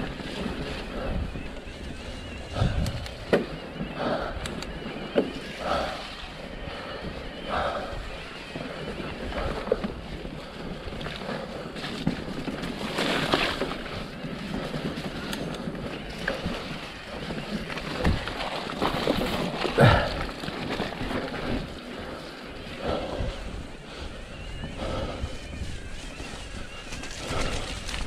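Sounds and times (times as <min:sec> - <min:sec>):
bike rattling: 0:00.0 - 0:28.0
bike tyres through mud: 0:00.0 - 0:28.0
wind on microphone: 0:00.0 - 0:28.0.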